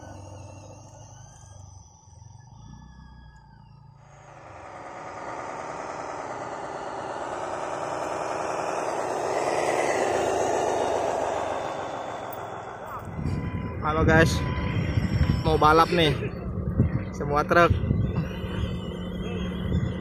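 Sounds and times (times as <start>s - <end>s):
model truck motor running: 0.0s - 20.0s.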